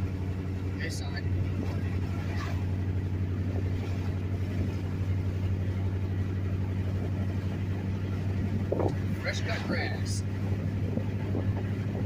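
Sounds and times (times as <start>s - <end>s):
road noise: 0.0s - 12.0s
truck engine: 0.0s - 12.0s.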